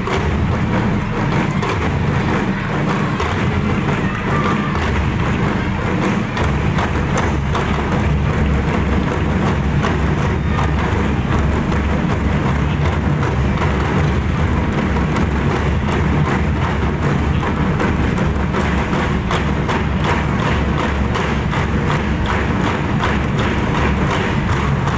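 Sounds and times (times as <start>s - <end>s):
drum ensemble playing: 0.0s - 24.9s.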